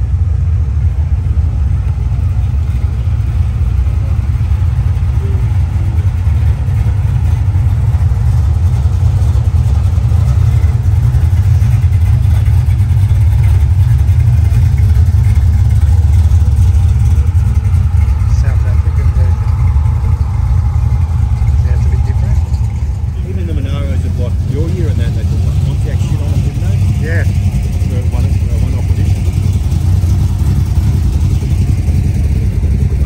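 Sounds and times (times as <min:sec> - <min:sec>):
car engines rumbling past: 0:00.0 - 0:33.0.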